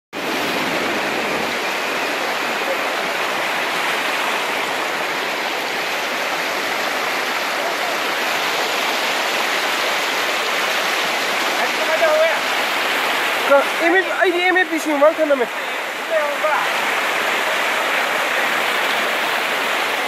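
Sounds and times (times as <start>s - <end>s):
floodwater rushing along a street: 0.1s - 20.0s.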